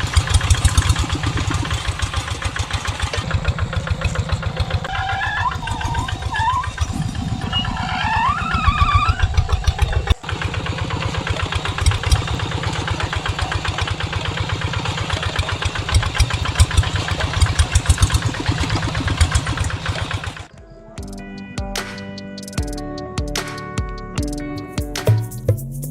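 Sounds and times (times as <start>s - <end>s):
small engine thumping: 0.0s - 21.2s.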